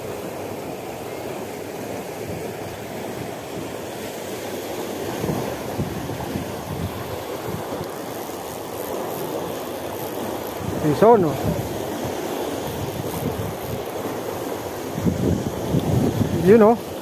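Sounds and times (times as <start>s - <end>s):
wind buffeting microphone: 2.2s - 17.0s
water pouring through weir: 2.9s - 17.0s.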